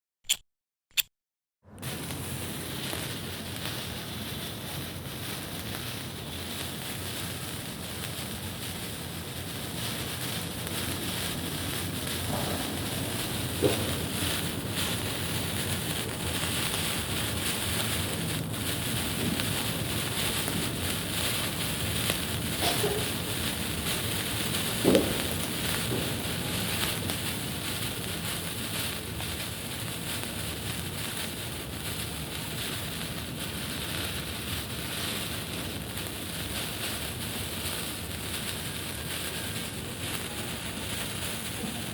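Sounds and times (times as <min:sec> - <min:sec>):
crackles and pops: 0:01.8 - 0:41.9
flare fizzing hiss: 0:01.8 - 0:41.9.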